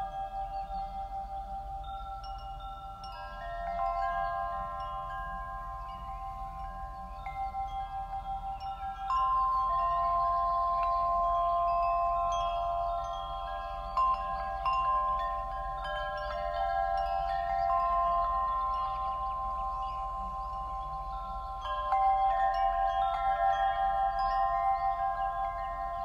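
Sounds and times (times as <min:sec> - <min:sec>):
chimes ringing: 0:00.0 - 0:26.0.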